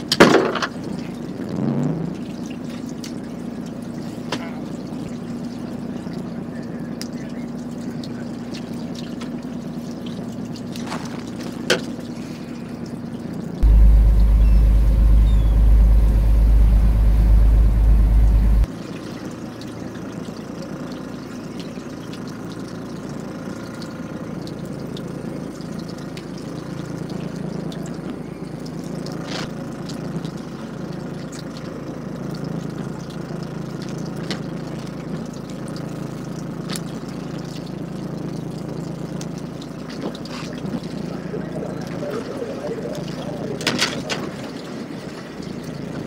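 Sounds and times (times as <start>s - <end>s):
boat engine running: 0.0s - 46.0s
water trickling: 0.7s - 46.0s.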